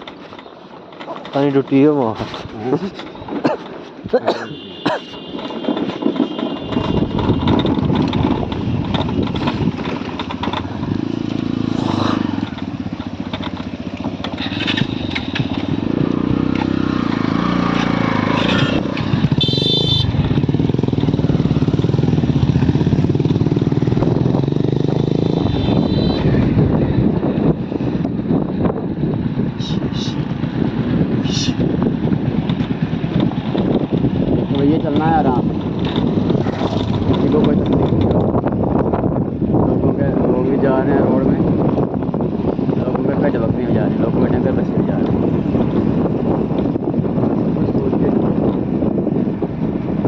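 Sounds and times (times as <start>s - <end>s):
motorcycle engine running: 4.6s - 50.0s.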